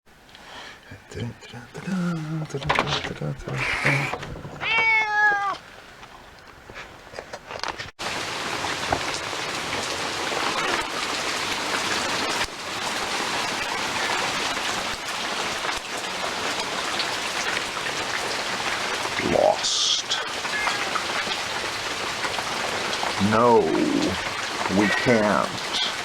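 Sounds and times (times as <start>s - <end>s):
steady rain falling: 0.1s - 26.0s.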